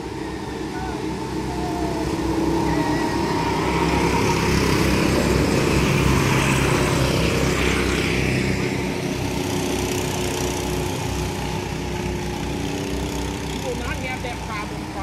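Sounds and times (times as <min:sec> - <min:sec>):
go-kart engines passing: 0:00.0 - 0:15.0.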